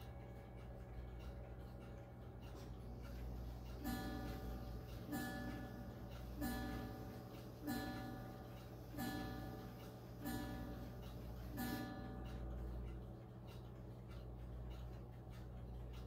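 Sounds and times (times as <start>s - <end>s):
clock striking the hour: 0.0s - 16.0s.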